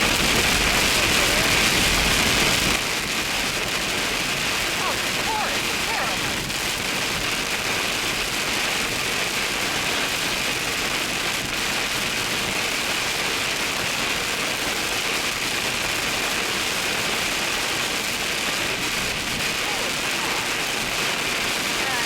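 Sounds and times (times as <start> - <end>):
heavy rain on a car: 0.0 - 22.0.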